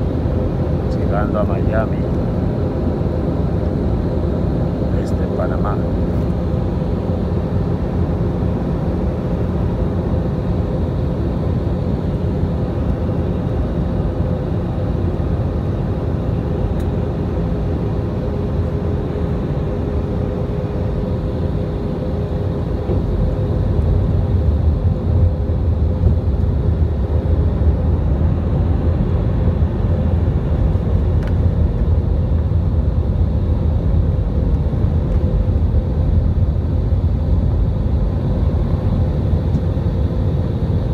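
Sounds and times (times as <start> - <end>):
jet engine drone and airflow: 0.0 - 40.9.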